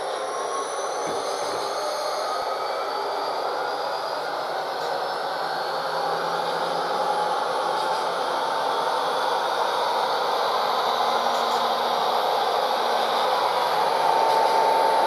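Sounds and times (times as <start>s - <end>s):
high whine: 0.0s - 15.0s
model locomotive diesel engine drone: 0.0s - 15.0s.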